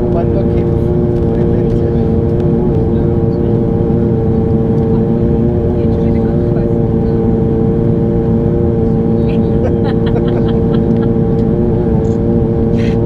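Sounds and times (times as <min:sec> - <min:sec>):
turboprop engine drone: 0:00.0 - 0:13.0.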